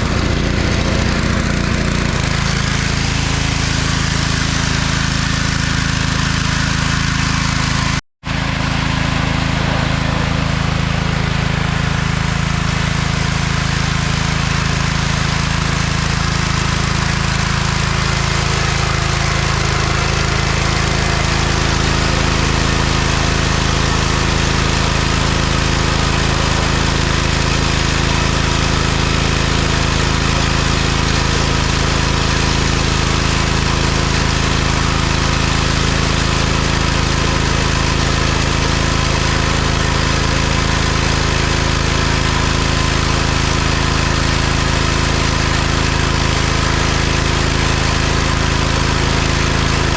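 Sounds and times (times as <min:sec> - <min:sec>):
pressure washer engine running: 0:00.0 - 0:49.9.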